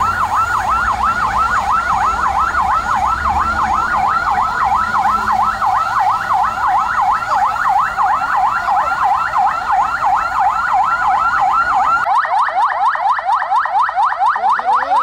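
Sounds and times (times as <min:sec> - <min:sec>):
police siren yelping: 0:00.0 - 0:15.0.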